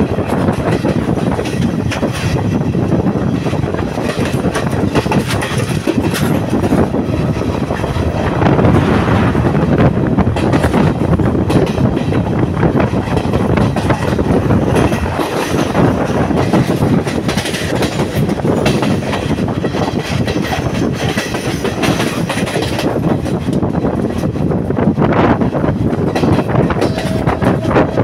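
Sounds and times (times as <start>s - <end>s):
wheels clacking over rail joints: 0.0s - 8.9s, 10.2s - 24.4s, 25.8s - 28.0s
train rumbling at speed: 0.0s - 28.0s.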